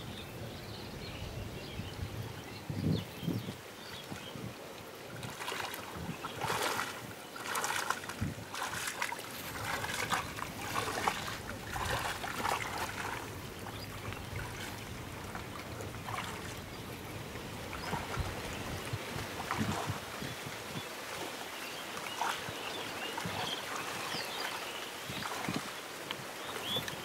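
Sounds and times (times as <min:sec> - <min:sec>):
shallow water sloshing and splashing: 0:03.4 - 0:27.0.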